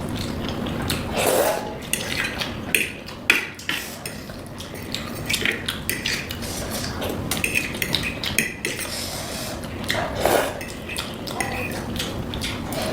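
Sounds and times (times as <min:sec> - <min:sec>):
utensils clinking against bowl: 0:00.2 - 0:12.9.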